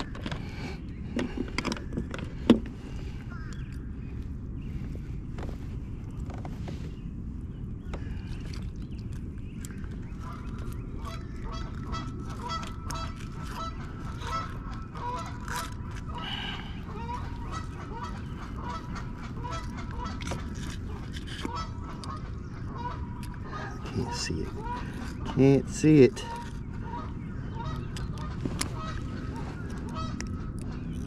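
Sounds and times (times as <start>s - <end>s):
birds calling in short notes: 0.0s - 31.0s
steady low rumble: 0.0s - 31.0s.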